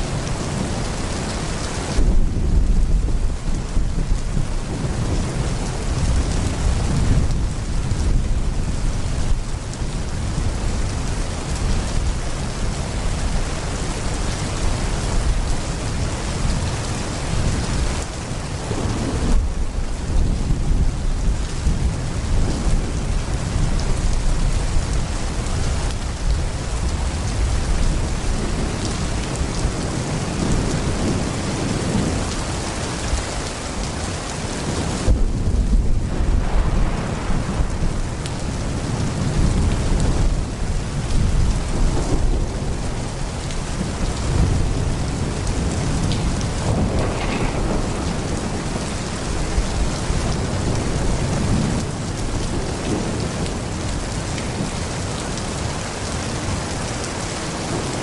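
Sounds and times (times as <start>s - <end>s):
heavy rain pouring: 0.0s - 58.0s
low rolling thunder: 0.0s - 58.0s.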